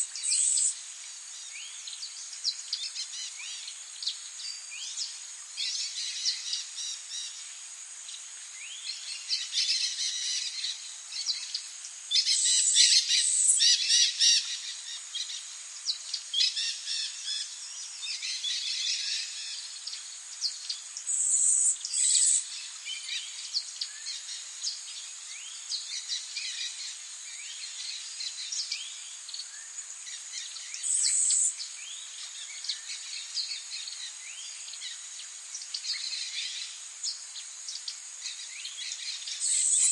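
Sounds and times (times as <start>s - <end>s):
songbirds singing and calling: 0.0s - 39.9s
steady high-pitched hiss: 0.0s - 39.9s.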